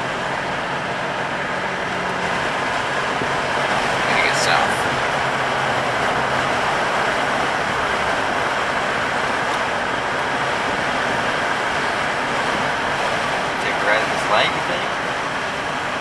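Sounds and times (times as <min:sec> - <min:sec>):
road and tyre noise in car: 0:00.0 - 0:16.0.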